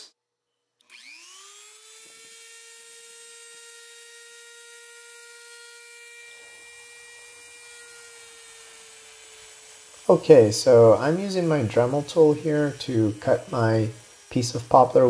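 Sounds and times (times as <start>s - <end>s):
rotary tool motor whine: 0.8s - 15.0s.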